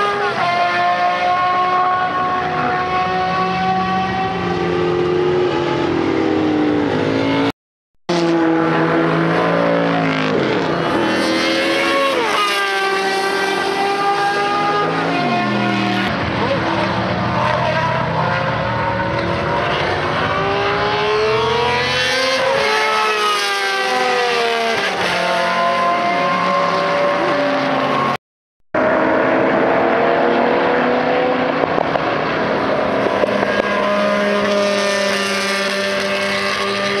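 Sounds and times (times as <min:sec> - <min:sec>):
racing engine at high revs: 0:00.0 - 0:07.5, 0:08.1 - 0:28.2, 0:28.8 - 0:37.0.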